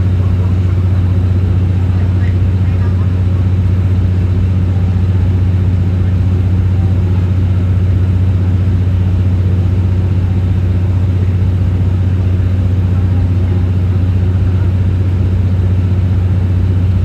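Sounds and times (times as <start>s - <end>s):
train diesel drone: 0.0s - 17.0s.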